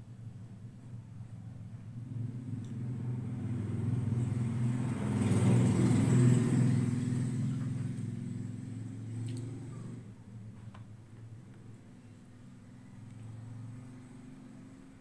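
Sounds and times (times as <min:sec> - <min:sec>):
vehicle engine hum passing by: 0:01.2 - 0:10.4, 0:11.4 - 0:15.0.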